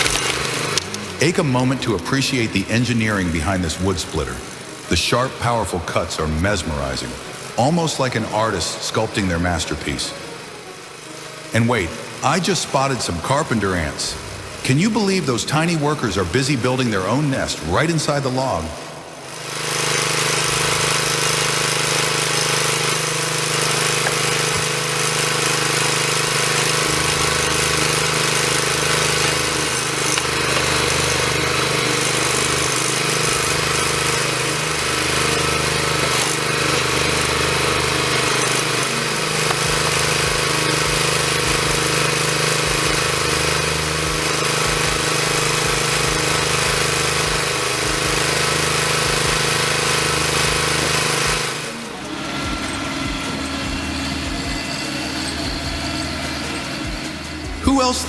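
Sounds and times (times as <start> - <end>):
machine engine droning: 0.0 - 58.0.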